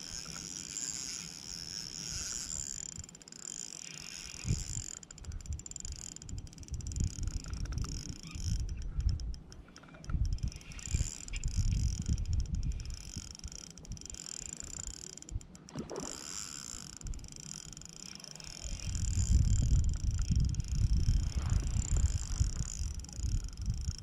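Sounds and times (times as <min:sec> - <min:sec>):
fishing reel being cranked: 0:00.0 - 0:24.0.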